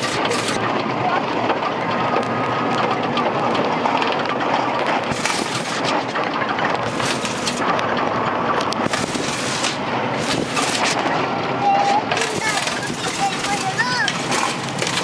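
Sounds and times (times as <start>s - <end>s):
road and wind noise: 0.0s - 15.0s
vehicle body rattling: 0.0s - 15.0s.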